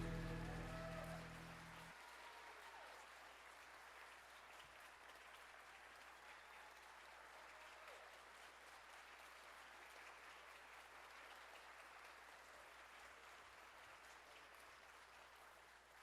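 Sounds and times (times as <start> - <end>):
faint audience applause: 0.0 - 16.0.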